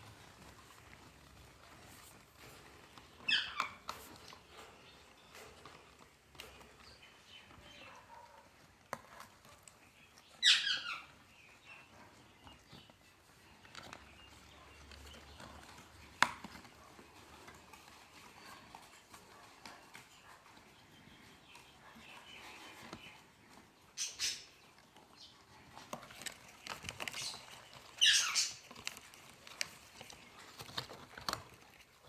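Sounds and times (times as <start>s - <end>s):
soft clicks and scratches: 0.0s - 32.0s.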